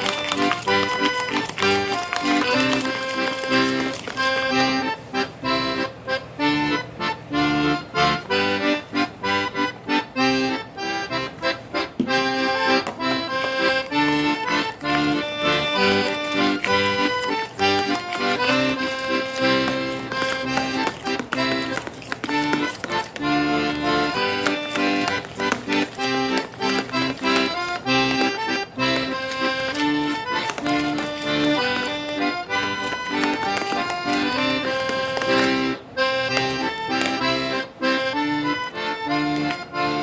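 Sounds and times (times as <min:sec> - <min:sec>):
lively accordion music: 0:00.0 - 0:40.0.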